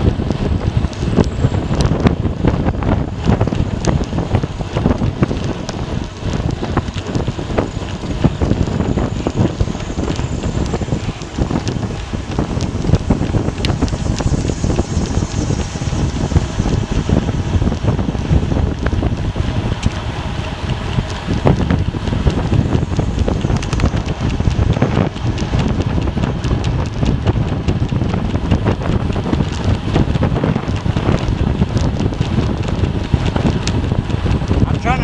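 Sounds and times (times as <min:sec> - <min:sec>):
wind buffeting microphone: 0:00.0 - 0:35.0
crackles: 0:00.3 - 0:35.0.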